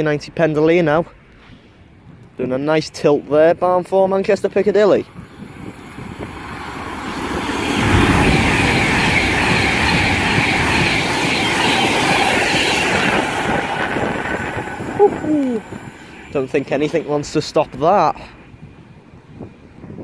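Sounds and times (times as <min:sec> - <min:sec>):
electric train passing at speed: 0:01.8 - 0:20.0.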